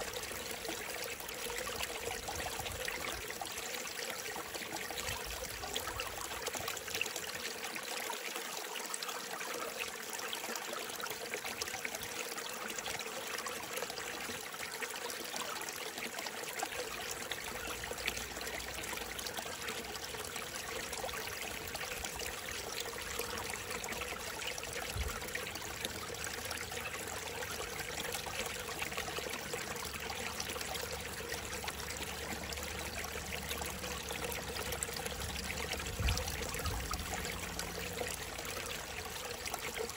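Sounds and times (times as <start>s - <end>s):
mountain stream trickling: 0.0s - 39.9s.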